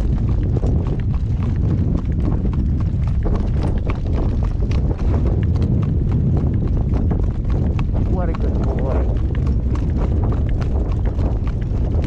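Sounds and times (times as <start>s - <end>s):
horse hooves clip-clopping on road: 0.0s - 12.0s
low rumble: 0.0s - 12.0s.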